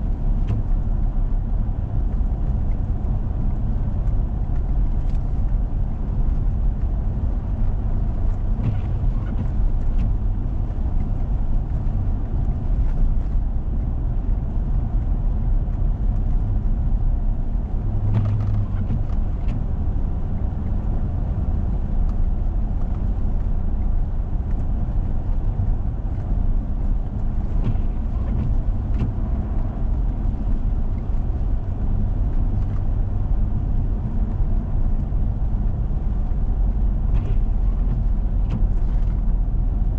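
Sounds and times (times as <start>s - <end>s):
vehicle engine and tyres rumbling: 0.0s - 39.9s.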